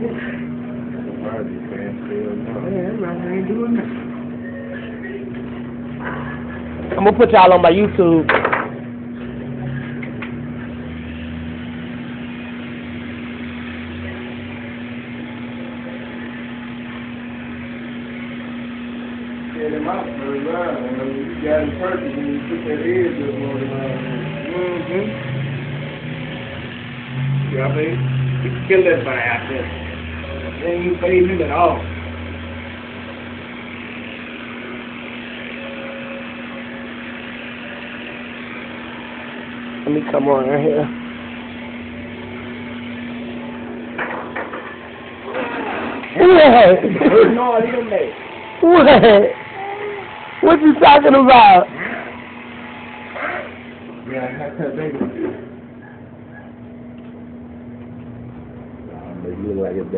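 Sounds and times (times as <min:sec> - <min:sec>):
electric hair clippers buzzing: 0:05.2 - 0:59.9.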